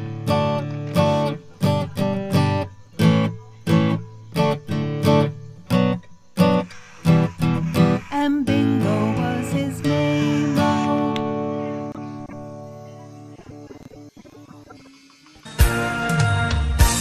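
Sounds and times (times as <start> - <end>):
strummed acoustic guitar chords: 0.0 - 14.1.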